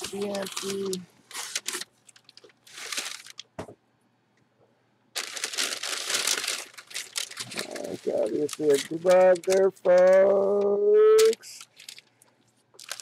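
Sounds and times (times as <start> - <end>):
packaging bag crinkling: 0.0 - 3.5, 5.2 - 12.2, 12.8 - 13.0.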